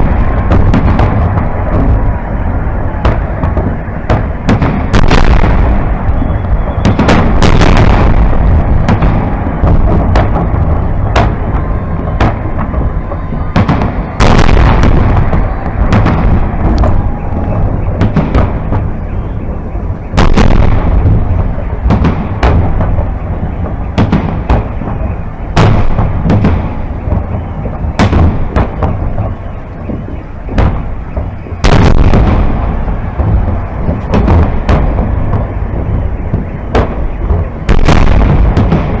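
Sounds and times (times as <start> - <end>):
firework shells bursting: 0.0 - 39.0
low rumble: 0.0 - 39.0.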